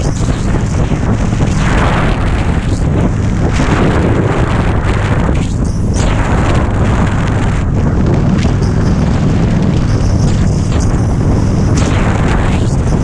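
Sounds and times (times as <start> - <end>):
motorcycle engine running: 0.0 - 13.0
wind buffeting on microphone: 0.0 - 13.0.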